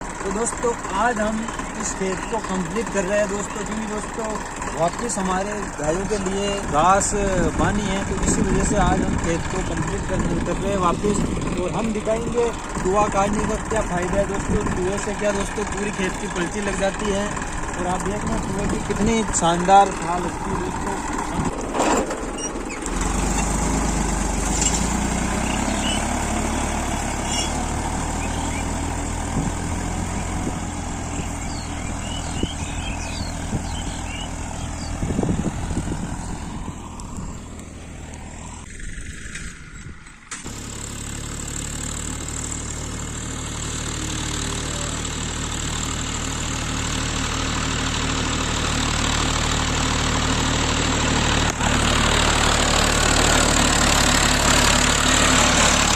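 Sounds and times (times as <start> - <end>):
tractor engine under load: 0.0 - 55.9.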